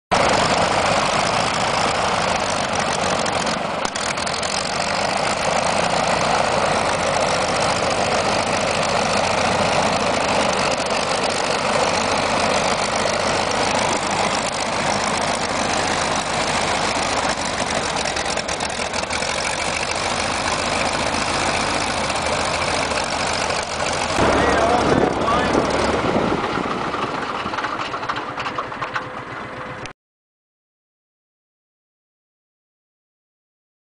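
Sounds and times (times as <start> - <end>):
radial engine and propeller: 0.1 - 29.9.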